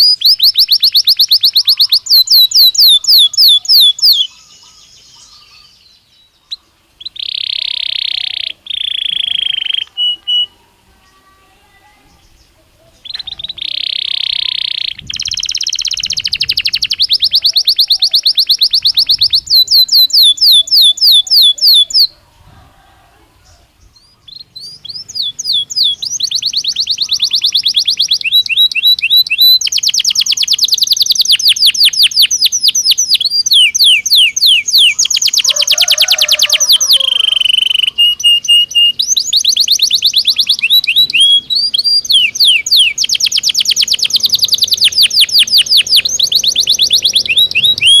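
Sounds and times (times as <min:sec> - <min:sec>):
canary singing trills: 0:00.0 - 0:22.6, 0:23.4 - 0:48.0.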